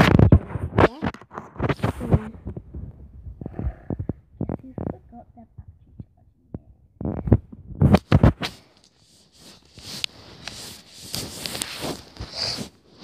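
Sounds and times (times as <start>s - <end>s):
rubbing against microphone: 0.0s - 6.2s, 6.9s - 13.0s.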